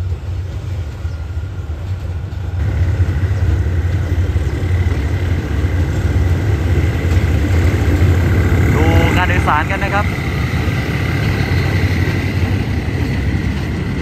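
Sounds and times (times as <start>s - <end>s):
locomotive engine rumble: 0.0s - 14.0s.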